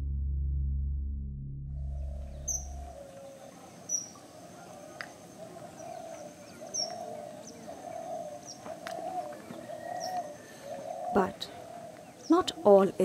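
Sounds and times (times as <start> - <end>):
birds chirping: 1.9 - 13.0
faint natural ambience: 1.9 - 13.0.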